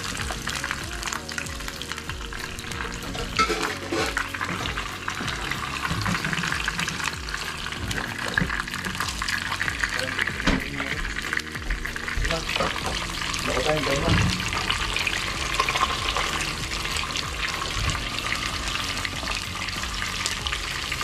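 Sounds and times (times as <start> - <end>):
hot oil sizzling in frying pan: 0.0 - 21.0.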